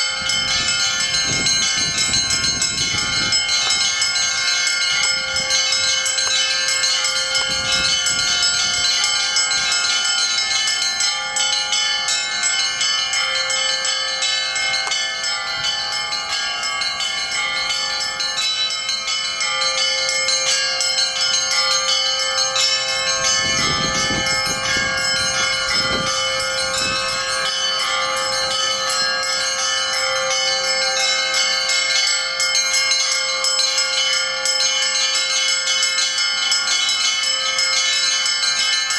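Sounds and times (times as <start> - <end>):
deep sustained bell ringing: 0.0 - 38.9
small church bells ringing: 0.0 - 38.9.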